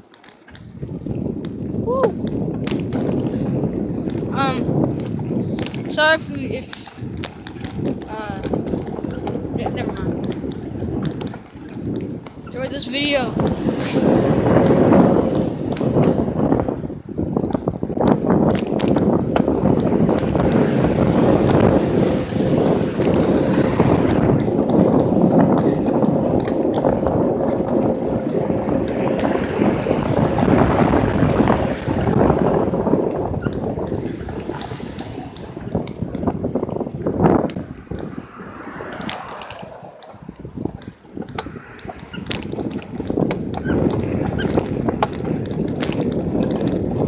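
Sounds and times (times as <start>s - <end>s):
bicycle clicks and rattles: 0.0s - 47.0s
wind and road rumble: 0.0s - 47.0s.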